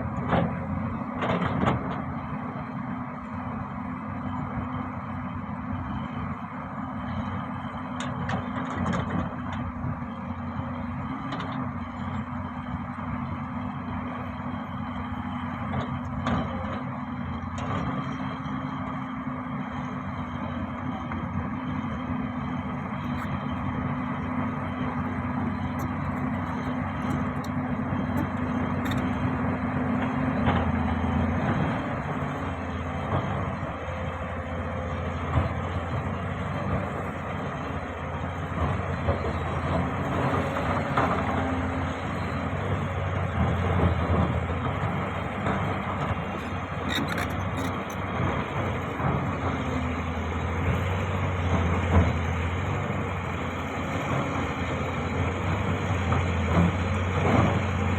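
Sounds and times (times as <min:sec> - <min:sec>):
heavy machine engine running: 0:00.0 - 0:57.9.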